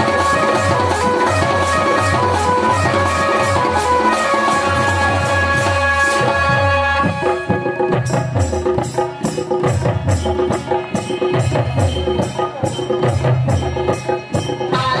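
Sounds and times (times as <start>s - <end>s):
folk dance music: 0.0s - 15.0s
percussion beat: 0.0s - 15.0s.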